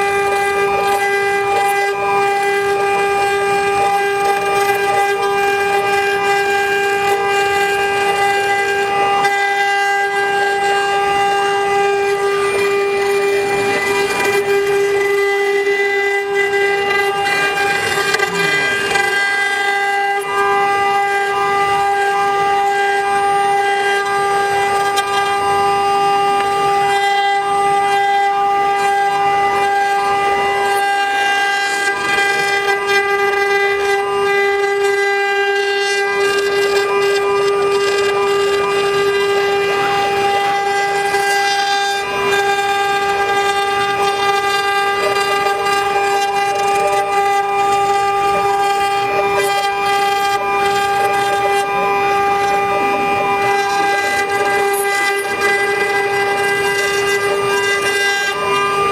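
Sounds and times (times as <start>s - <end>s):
bit cutting into wood: 0.0s - 58.9s
router spindle whining: 0.0s - 58.9s.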